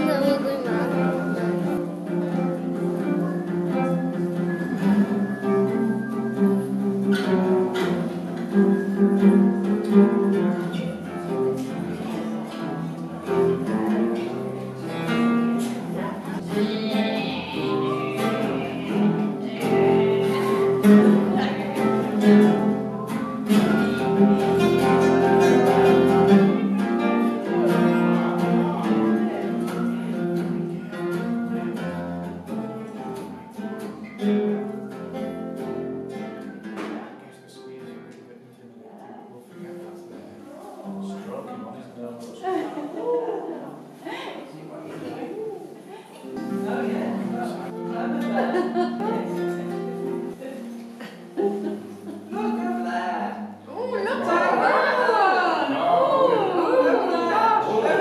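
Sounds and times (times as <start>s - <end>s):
plucked acoustic guitar music: 0.0s - 38.7s, 39.4s - 44.0s, 44.6s - 58.0s.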